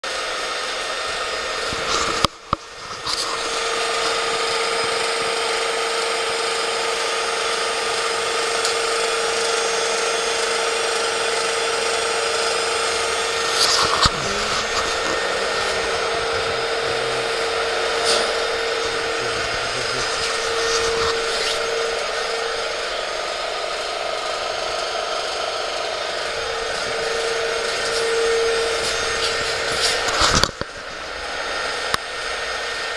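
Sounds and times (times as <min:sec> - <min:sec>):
vacuum pump whirring: 0:00.0 - 0:32.9.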